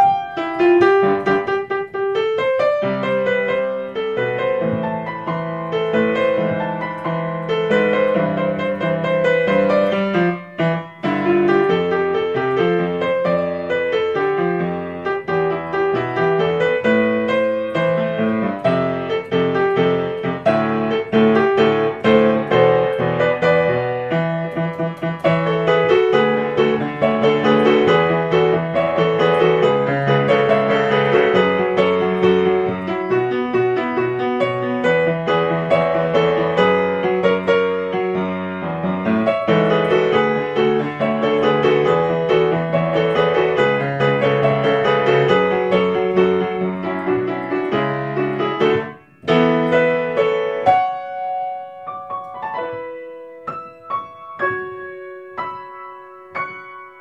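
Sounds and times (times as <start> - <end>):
background piano music: 0.0 - 57.0.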